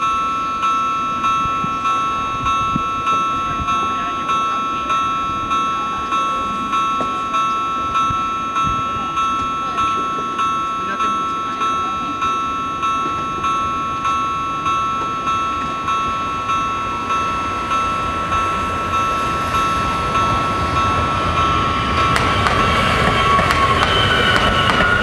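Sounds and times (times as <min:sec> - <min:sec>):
level crossing bells ringing: 0:00.0 - 0:25.0
train rumble: 0:00.0 - 0:25.0.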